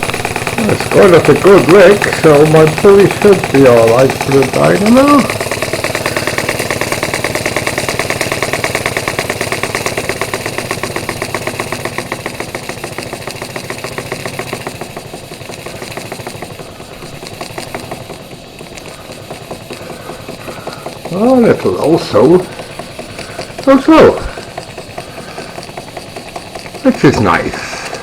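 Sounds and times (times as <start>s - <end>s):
steam engine exhaust beats: 0.0s - 28.0s.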